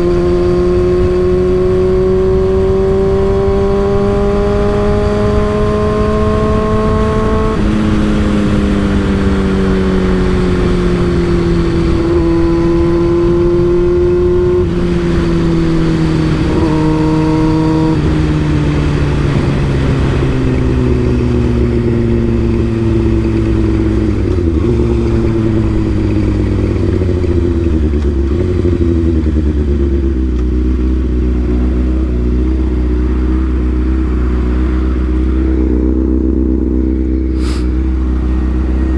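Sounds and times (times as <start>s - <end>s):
motorcycle exhaust note shifting gears: 0.0s - 38.9s
wind noise rumbling: 0.0s - 38.9s.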